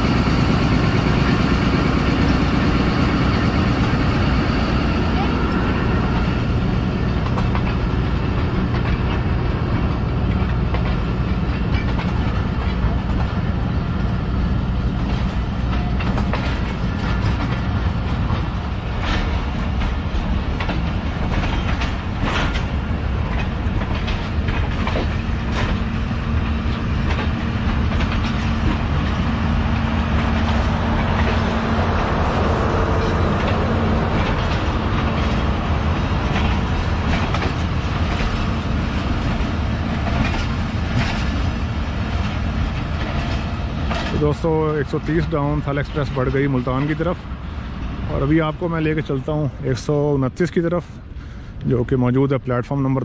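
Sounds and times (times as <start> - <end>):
train wheels clacking over rail joints: 0.0 - 51.6
train low rumble: 0.0 - 53.0.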